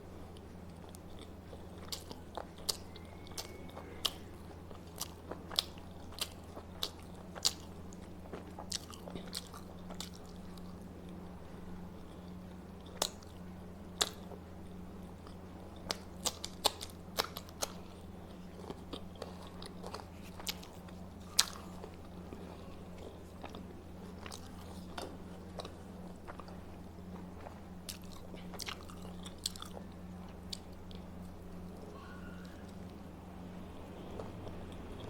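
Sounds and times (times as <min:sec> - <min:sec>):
low electrical hum: 0:00.0 - 0:35.0
person chewing food: 0:00.2 - 0:33.0, 0:33.6 - 0:35.0.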